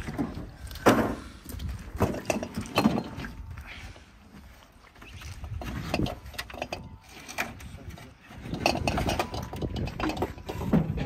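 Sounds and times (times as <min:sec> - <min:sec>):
boots shifting on wooden pallets: 0:00.0 - 0:11.0.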